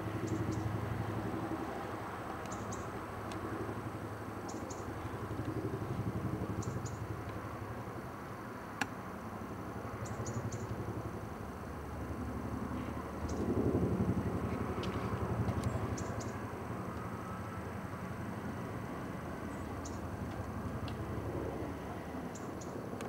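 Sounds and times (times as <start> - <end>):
helicopter rotor drone: 0.0 - 23.0.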